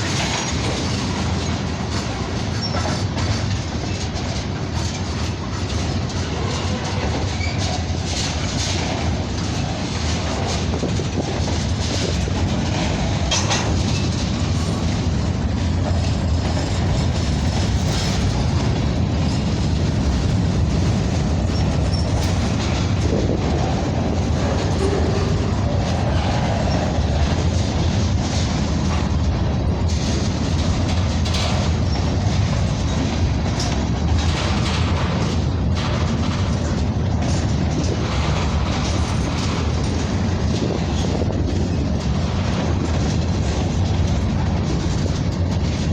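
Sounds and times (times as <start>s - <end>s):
train wheels rumbling on rails: 0.0s - 45.9s
wheels clicking over rail joints: 0.0s - 45.9s.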